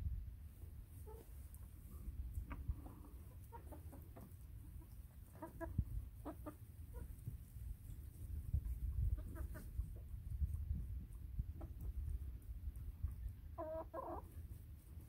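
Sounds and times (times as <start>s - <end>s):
hens clucking: 0.9s - 15.0s.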